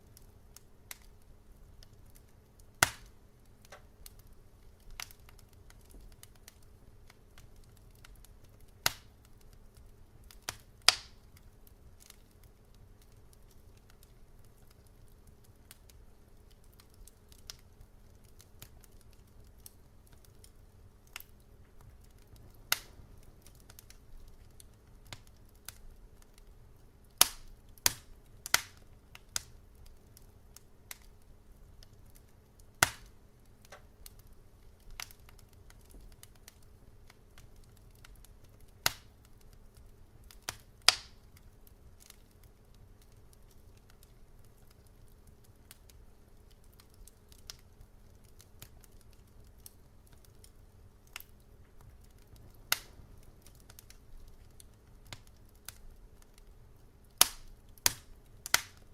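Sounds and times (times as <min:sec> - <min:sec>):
low steady hum: 0:00.0 - 0:58.9
wood fire crackling: 0:00.0 - 0:58.9.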